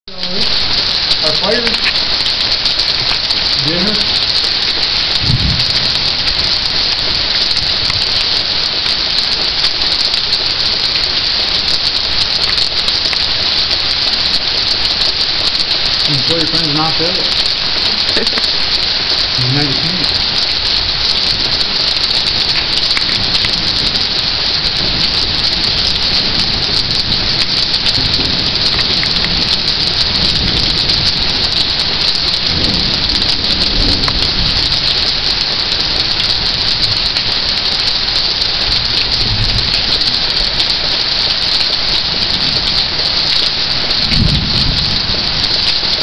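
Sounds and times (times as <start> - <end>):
heavy rain pouring: 0.1 - 46.0.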